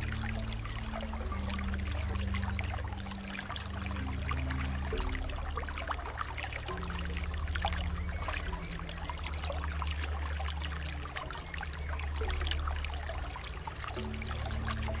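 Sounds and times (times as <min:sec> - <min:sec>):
soft low music tones: 0:00.0 - 0:15.0
water trickling and splashing: 0:00.0 - 0:15.0.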